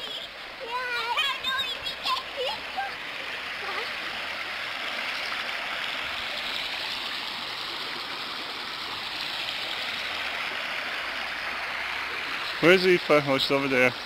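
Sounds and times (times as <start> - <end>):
river rushing over stones: 0.0 - 14.0.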